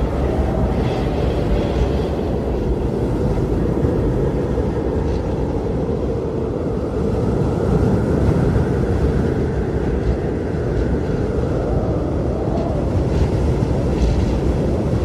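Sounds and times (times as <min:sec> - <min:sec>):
blizzard wind rushing: 0:00.0 - 0:15.0
faint high wind howl: 0:00.0 - 0:15.0.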